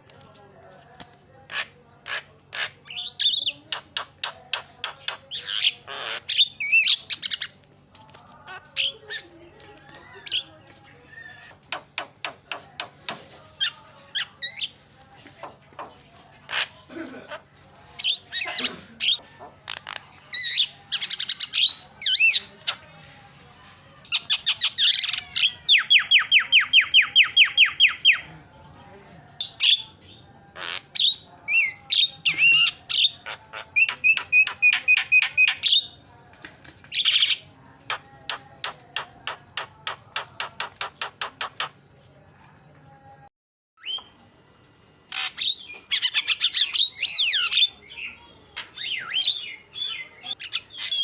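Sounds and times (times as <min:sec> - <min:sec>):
myna singing chattering song: 0:00.2 - 0:28.4, 0:29.0 - 0:42.0.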